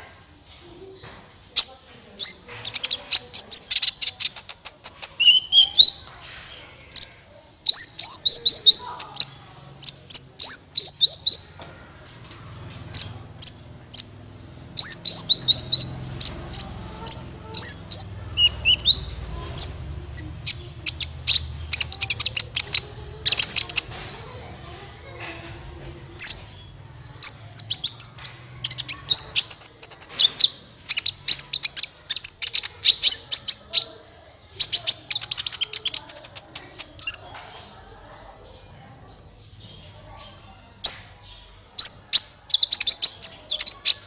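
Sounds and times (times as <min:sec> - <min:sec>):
sunbird high chirps: 0:01.6 - 0:11.7, 0:12.4 - 0:24.3, 0:26.2 - 0:38.4, 0:40.8 - 0:44.0.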